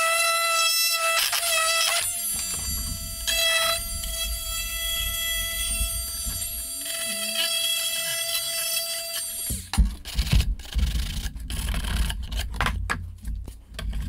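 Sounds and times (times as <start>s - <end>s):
multi-tool saw cutting plastic pipe: 0.0s - 14.0s.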